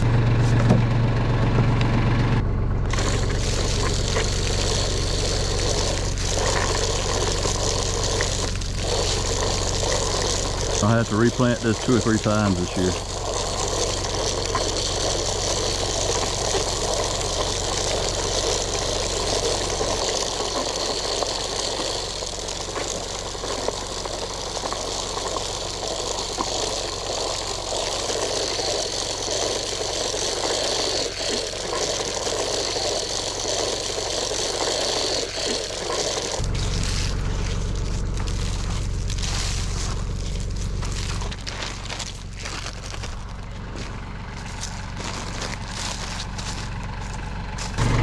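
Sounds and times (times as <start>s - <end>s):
small engine running: 0.0s - 48.0s.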